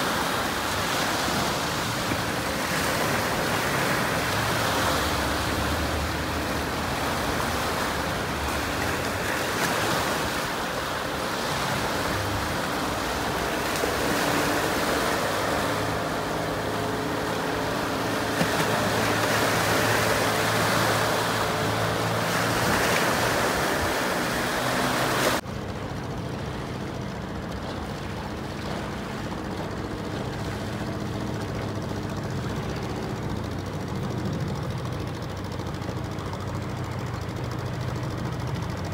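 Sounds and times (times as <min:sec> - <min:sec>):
outboard motor running: 0:00.0 - 0:38.9
wind and water rushing: 0:00.0 - 0:38.9.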